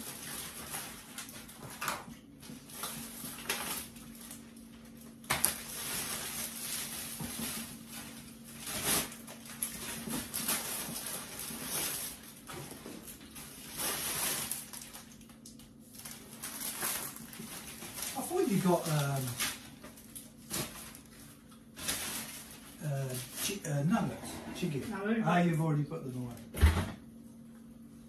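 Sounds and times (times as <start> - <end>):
plastic bag rustling: 0.0 - 25.0.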